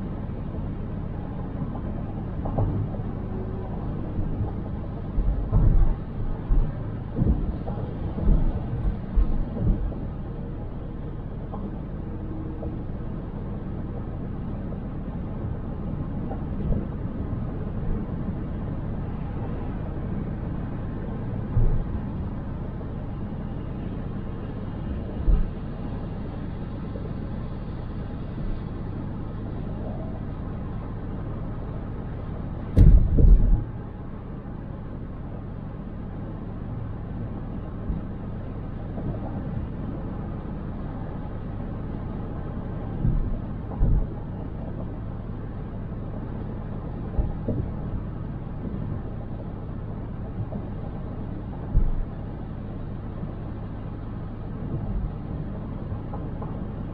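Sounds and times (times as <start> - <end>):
car road and engine rumble: 0.0 - 56.9.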